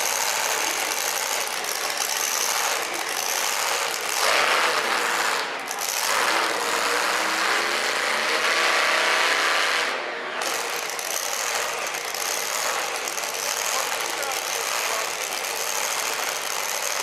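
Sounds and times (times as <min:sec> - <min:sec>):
large hall noise: 0:00.0 - 0:17.0
truck engine at low revs: 0:00.0 - 0:17.0.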